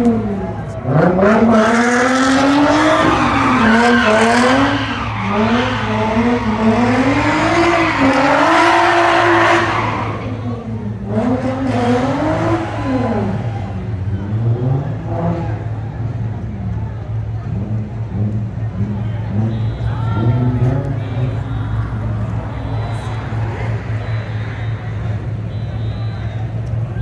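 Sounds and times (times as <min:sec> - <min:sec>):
car engine revving: 0:00.0 - 0:25.6
tires screeching: 0:00.0 - 0:27.0.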